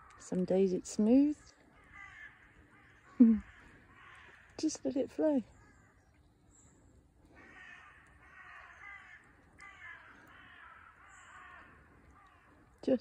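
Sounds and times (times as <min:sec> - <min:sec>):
faint harsh bird calls: 0:01.2 - 0:04.7, 0:05.4 - 0:12.8.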